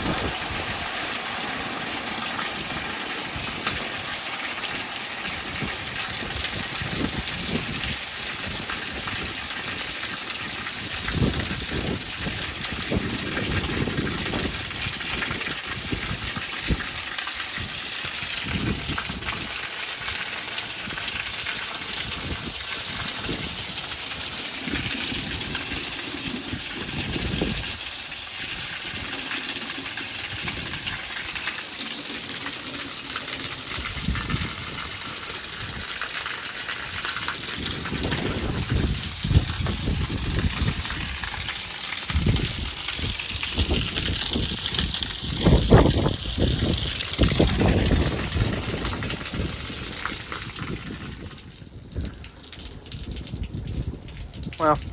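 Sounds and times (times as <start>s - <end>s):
wind buffeting microphone: 0.0s - 2.0s, 2.6s - 9.8s, 10.7s - 17.0s, 17.6s - 19.6s, 20.8s - 29.2s, 30.2s - 31.4s, 33.7s - 36.2s, 36.9s - 54.9s
steady rain: 0.0s - 54.9s
water gushing off roof edge: 0.0s - 54.9s.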